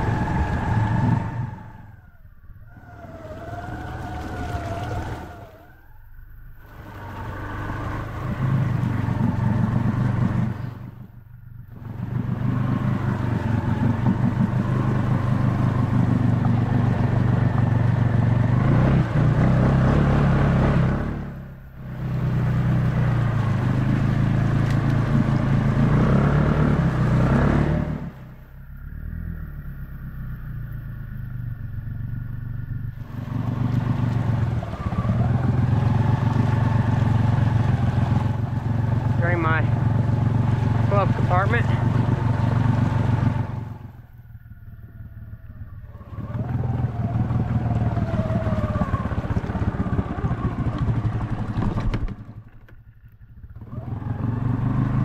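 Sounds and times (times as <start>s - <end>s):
atv engine revving: 0.0s - 55.0s
vehicle pushing through water: 0.0s - 55.0s.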